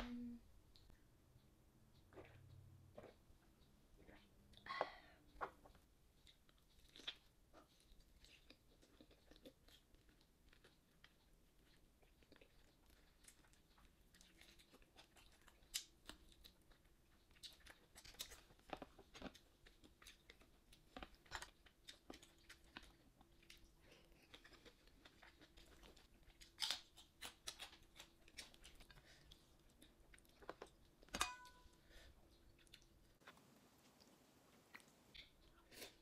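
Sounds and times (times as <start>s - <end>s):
person chewing: 5.3s - 36.0s.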